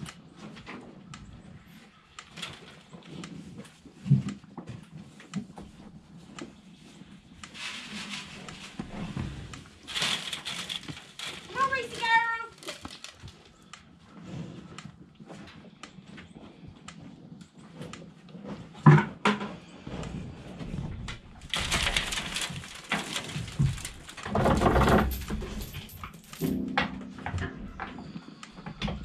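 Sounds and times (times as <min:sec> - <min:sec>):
rustling: 0:01.6 - 0:18.7, 0:19.8 - 0:27.2.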